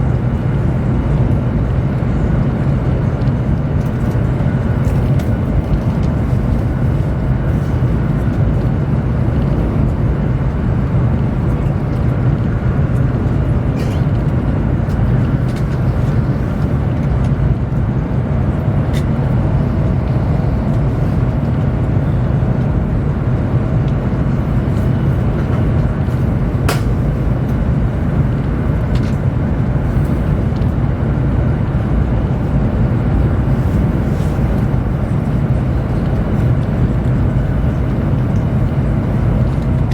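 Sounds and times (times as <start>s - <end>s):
train running noise: 0.0s - 39.9s.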